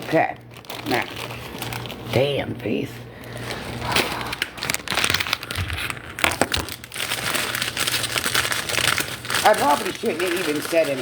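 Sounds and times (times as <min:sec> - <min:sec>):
crinkling and crackling: 0:00.0 - 0:11.0.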